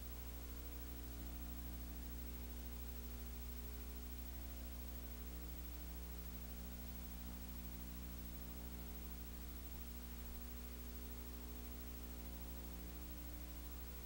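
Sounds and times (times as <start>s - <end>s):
constant hiss: 0.0s - 14.0s
electrical hum: 0.0s - 14.0s.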